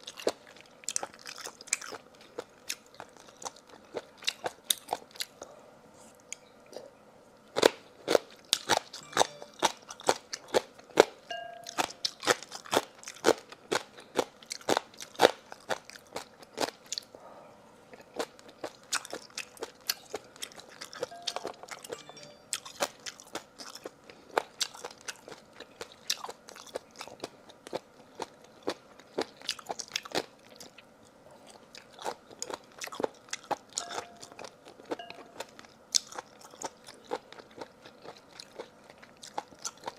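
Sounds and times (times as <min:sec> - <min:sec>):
person chewing crunchy food: 0:00.0 - 0:06.9, 0:07.5 - 0:17.2, 0:17.9 - 0:39.9.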